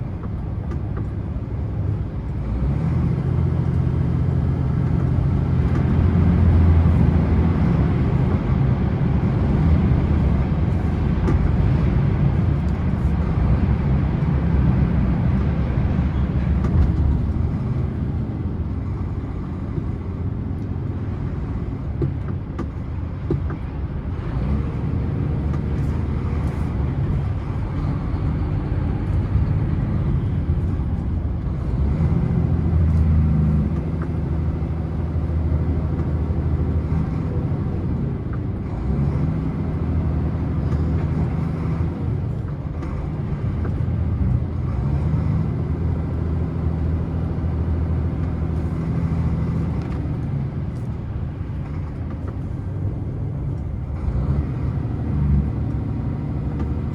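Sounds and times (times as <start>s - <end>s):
road noise: 0.0s - 56.9s
truck diesel engine droning: 0.0s - 56.9s.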